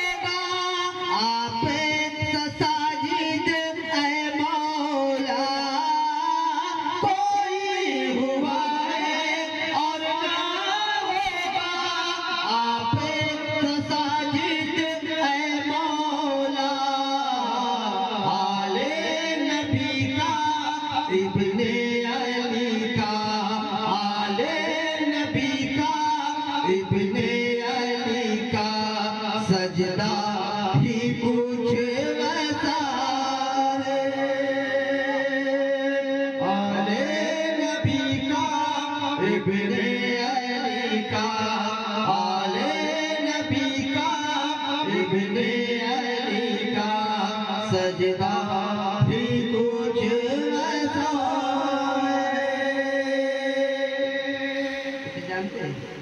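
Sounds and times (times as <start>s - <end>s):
man singing through loudspeakers: 0.0s - 56.0s.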